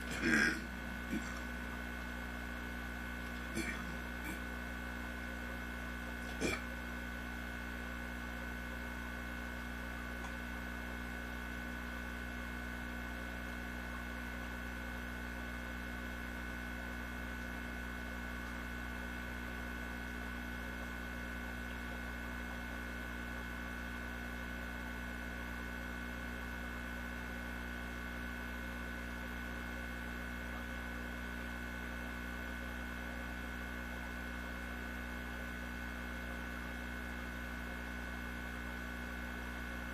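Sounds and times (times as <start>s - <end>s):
steady electrical hum: 0.0s - 39.9s.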